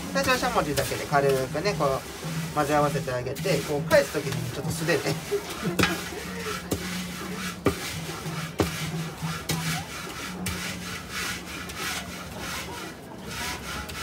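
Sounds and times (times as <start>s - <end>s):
spatula scraping metal pan: 0.0s - 14.0s.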